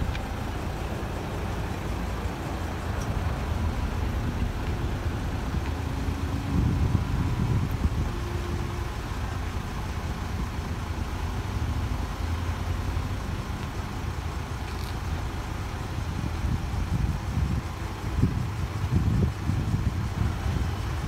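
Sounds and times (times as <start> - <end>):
road rumble: 0.0 - 21.0
vehicle engine running: 0.0 - 21.0.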